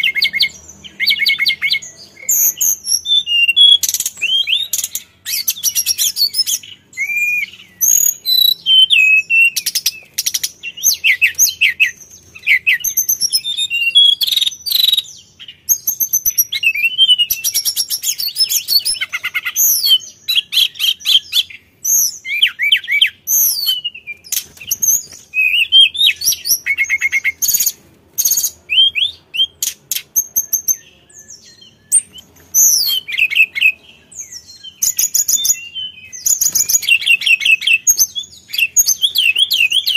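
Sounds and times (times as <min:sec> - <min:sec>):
flycatcher singing whistled phrases: 0:00.0 - 0:39.9.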